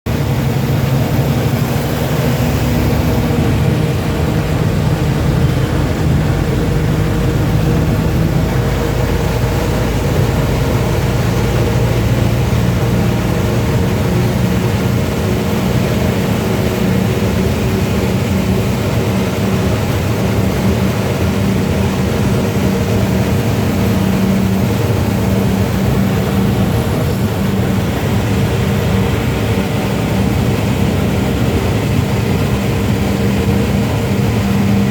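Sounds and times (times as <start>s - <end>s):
road noise: 0.1s - 34.9s
vehicle engine humming: 0.1s - 34.9s.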